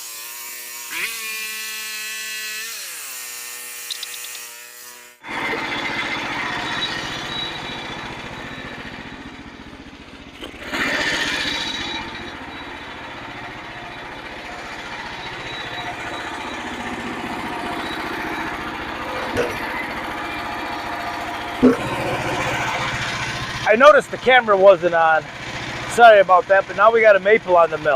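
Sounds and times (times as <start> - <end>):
small gasoline engine running: 0.0 - 27.9.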